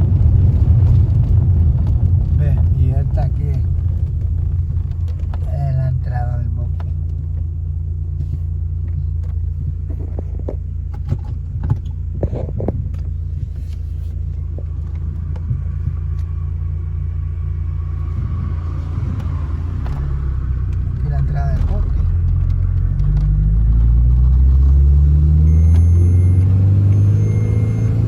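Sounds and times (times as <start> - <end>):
car rumble from inside cabin: 0.0 - 28.0.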